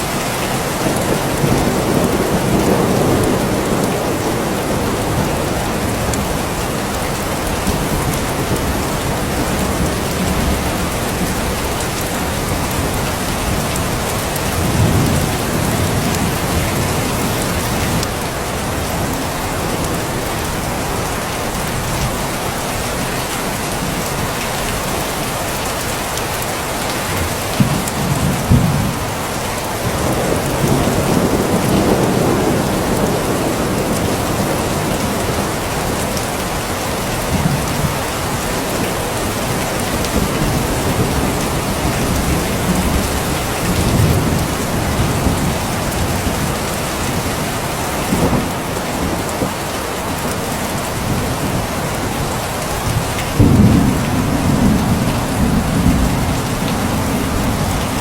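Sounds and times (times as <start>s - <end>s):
heavy rain falling: 0.0s - 58.0s
low thunder rumbles: 0.1s - 22.6s, 27.2s - 58.0s.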